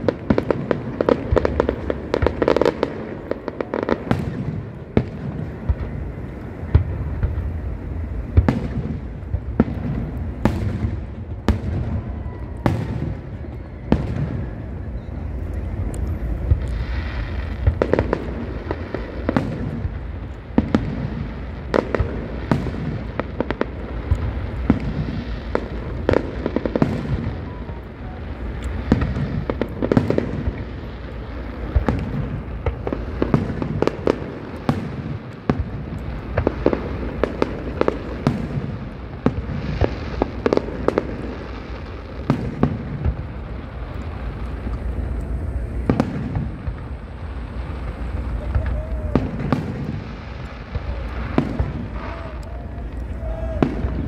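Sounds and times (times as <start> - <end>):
fireworks bangs and crackles: 0.0 - 54.0
low background noise: 0.0 - 54.0.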